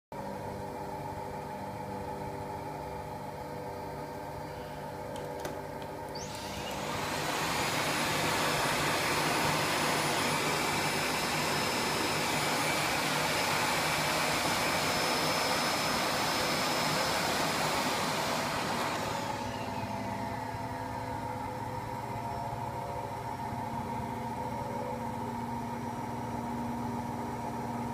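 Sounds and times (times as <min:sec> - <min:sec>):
vacuum cleaner motor whine: 0:00.2 - 0:27.9.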